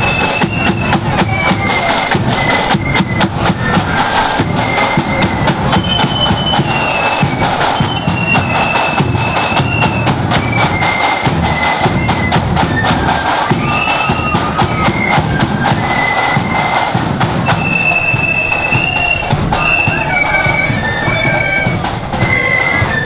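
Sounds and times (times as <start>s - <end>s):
steady bass drum beat: 0.0s - 12.8s, 13.5s - 22.5s
flutes playing melody: 0.0s - 23.0s
rapid snare drum strokes: 0.0s - 23.0s.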